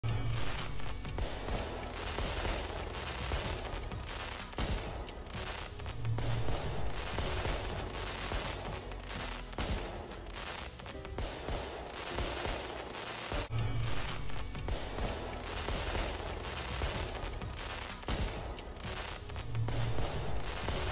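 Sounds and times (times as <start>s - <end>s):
firework crackles: 0.0s - 20.9s
firework shell bursts: 0.3s - 20.9s.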